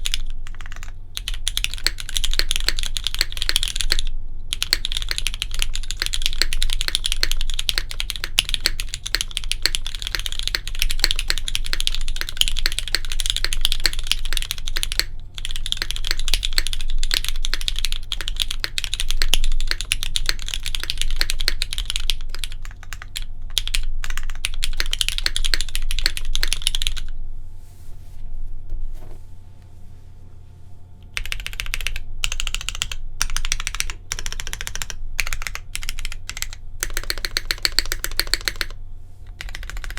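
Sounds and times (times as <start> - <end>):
mechanical keyboard typing: 0.0 - 27.1, 31.1 - 39.9.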